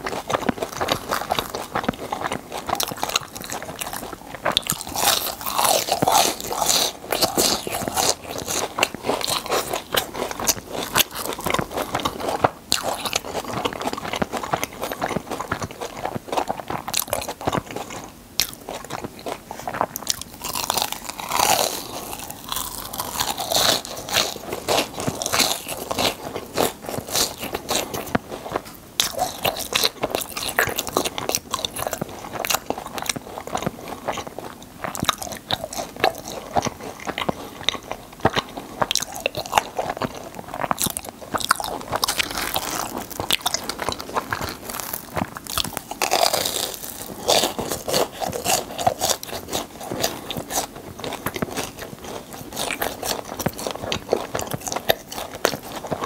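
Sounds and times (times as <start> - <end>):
crunching and chewing food: 0.0 - 56.0.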